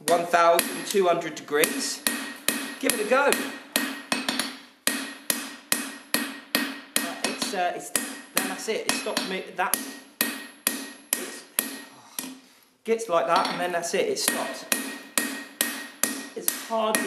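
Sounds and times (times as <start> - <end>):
anvil ringing: 0.0 - 12.4, 13.3 - 17.0
hammer striking hot metal on anvil: 0.0 - 12.4, 14.2 - 17.0.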